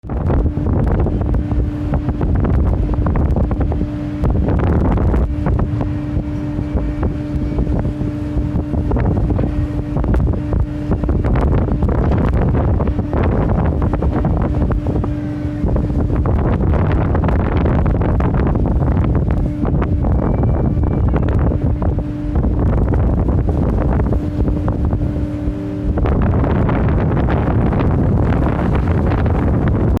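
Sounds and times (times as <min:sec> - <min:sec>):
low mechanical hum: 0:00.0 - 0:30.0
wind buffeting microphone: 0:00.0 - 0:30.0.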